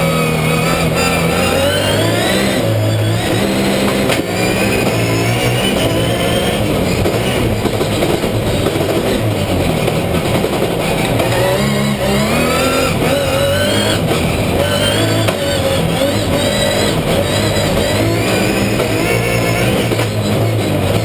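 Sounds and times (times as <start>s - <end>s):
racing car engine revving: 0.0s - 21.0s.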